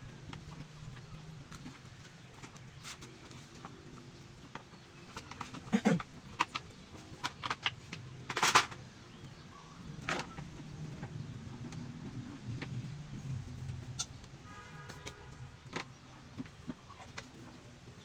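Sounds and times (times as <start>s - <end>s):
low steady hum: 0.0s - 18.0s
hard objects clicking and knocking: 0.2s - 17.8s.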